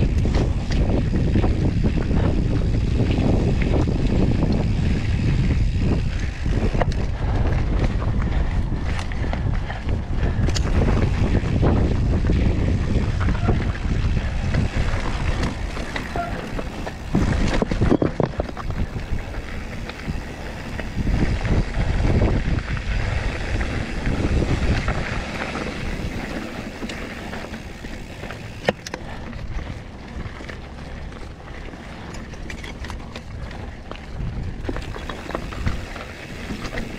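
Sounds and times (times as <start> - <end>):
wind rushing over microphone: 0.0 - 30.4, 32.7 - 36.9
bike rattling and knocking: 0.0 - 36.9
bike tyre noise: 0.0 - 36.9.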